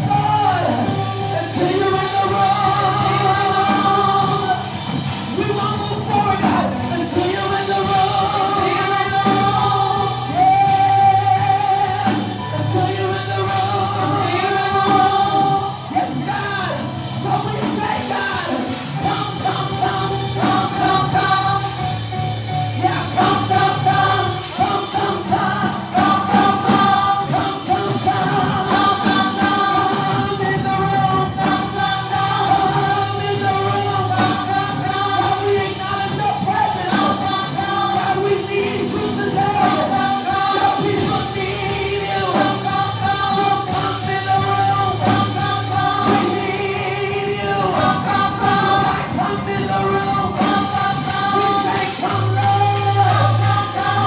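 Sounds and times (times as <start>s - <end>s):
band playing with steady beat: 0.0s - 54.0s
singers and backing choir: 0.0s - 54.0s.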